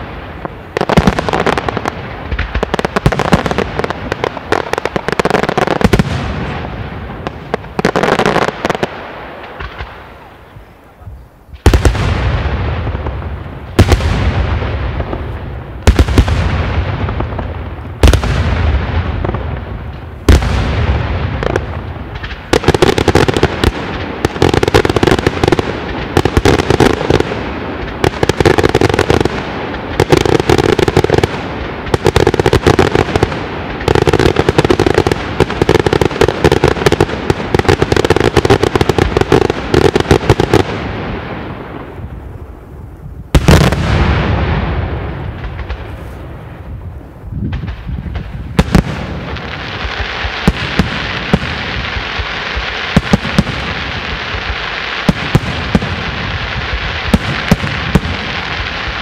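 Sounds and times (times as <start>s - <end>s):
fireworks bangs with echo: 0.0s - 59.0s
fireworks crackling: 0.0s - 59.0s
rapid fireworks cracks: 0.0s - 59.0s.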